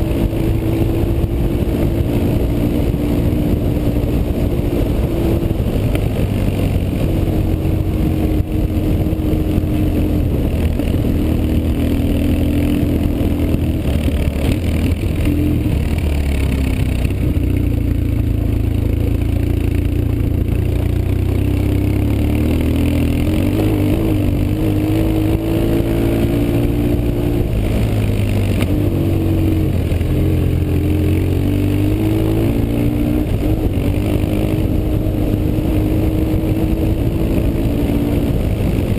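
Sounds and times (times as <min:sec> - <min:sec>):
motorcycle engine revving: 0:00.0 - 0:38.9
rush of riding noise: 0:00.0 - 0:38.9.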